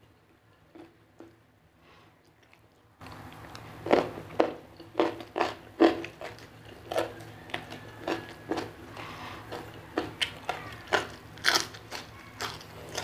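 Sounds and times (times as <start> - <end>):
crunchy food chewing: 2.2 - 13.0.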